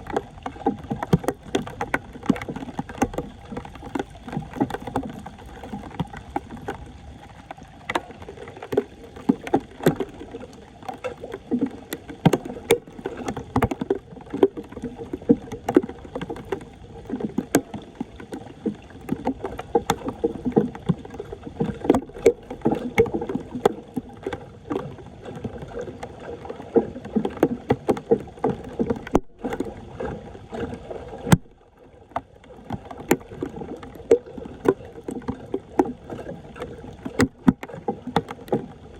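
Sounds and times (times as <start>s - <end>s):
floodwater splashing: 0.0s - 38.9s.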